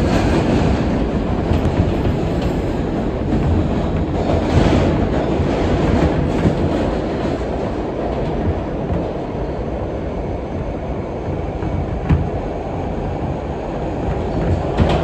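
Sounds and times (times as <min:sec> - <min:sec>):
rumble of train wheels on rail: 0:00.0 - 0:15.0.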